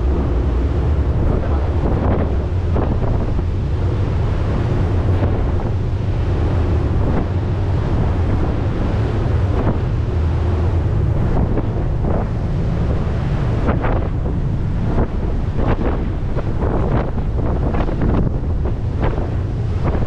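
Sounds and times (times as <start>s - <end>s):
ferry engines droning: 0.0s - 19.9s
water washing past boat: 0.0s - 20.0s
wind buffeting microphone: 0.0s - 20.0s.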